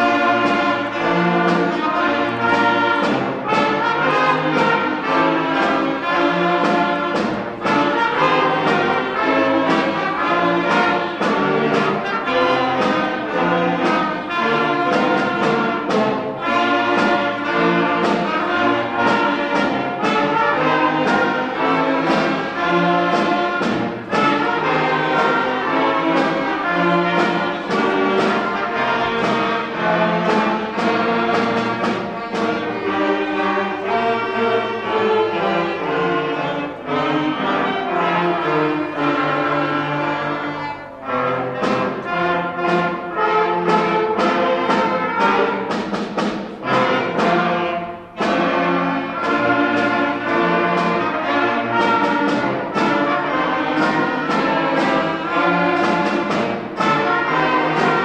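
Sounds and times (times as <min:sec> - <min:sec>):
wind band playing chords: 0:00.0 - 0:58.0.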